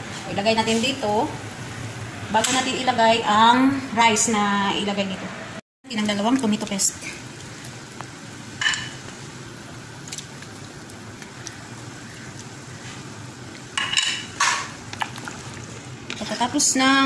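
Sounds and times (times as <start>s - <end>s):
faint steady sizzle in pot: 0.0s - 4.7s, 5.8s - 17.0s.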